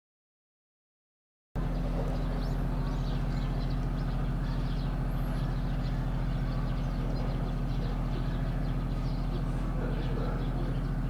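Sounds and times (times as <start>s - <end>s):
birds chirping: 1.6s - 11.0s
scooter engine running: 1.6s - 11.0s.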